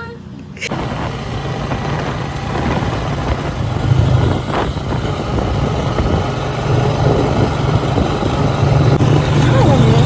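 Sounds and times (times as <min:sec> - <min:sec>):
atv engine droning: 0:00.7 - 0:10.0.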